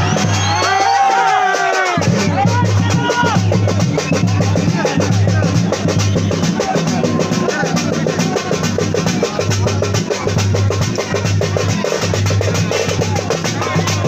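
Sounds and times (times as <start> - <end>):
fast steady drumming: 0.0 - 14.0
loud music: 0.0 - 14.0.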